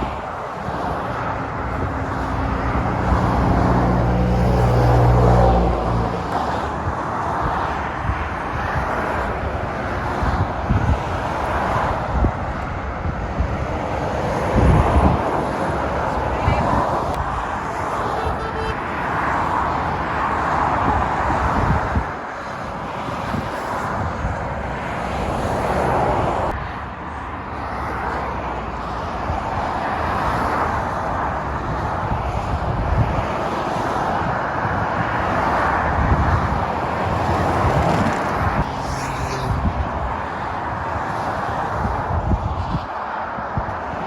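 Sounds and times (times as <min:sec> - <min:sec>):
motorway traffic passing: 0:00.0 - 0:44.0.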